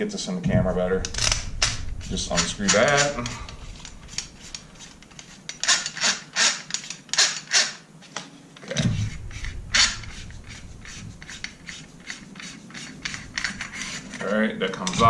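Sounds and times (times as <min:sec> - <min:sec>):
metal barrel shroud scraping: 0:00.9 - 0:07.8, 0:08.7 - 0:15.0.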